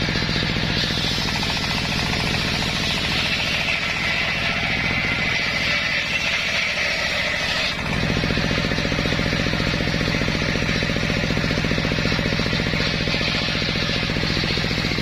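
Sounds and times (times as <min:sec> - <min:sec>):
circular sawmill engine thudding: 0:00.0 - 0:15.0.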